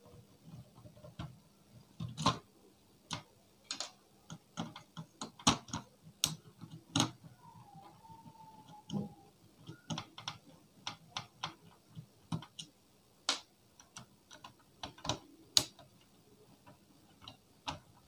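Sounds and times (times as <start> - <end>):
hands clicking plastic and metal parts: 2.0 - 2.5, 3.1 - 18.0.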